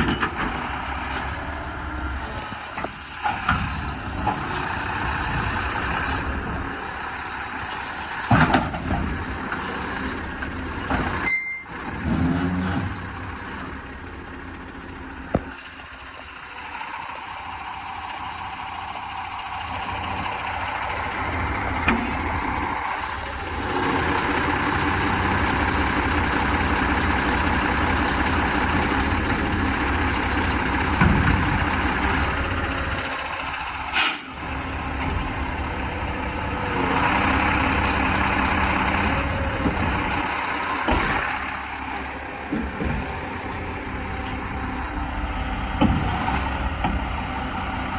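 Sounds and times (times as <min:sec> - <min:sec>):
diesel truck engine running: 0:00.0 - 0:47.9.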